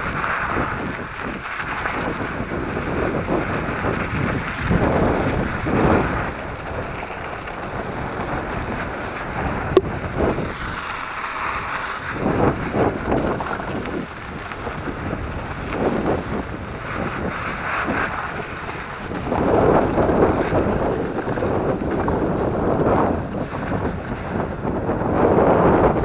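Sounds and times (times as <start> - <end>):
bike tyres crunching on gravel: 0.0 - 26.0
wind buffeting microphone: 0.0 - 26.0.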